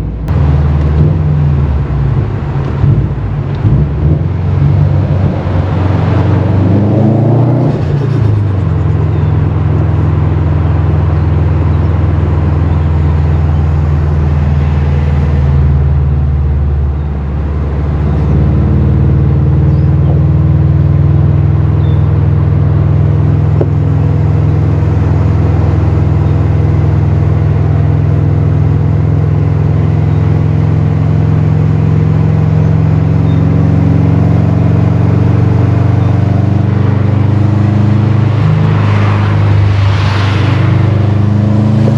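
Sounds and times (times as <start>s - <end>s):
car engine droning while driving: 0.0s - 41.9s.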